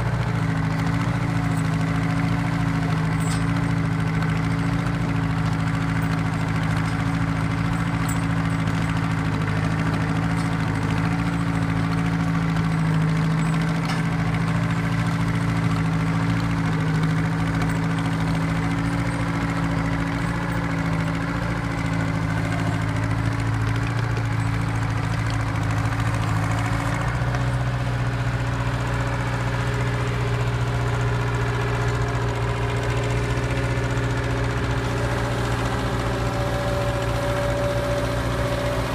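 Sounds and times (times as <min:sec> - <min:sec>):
grader engine idling: 0:00.0 - 0:38.9.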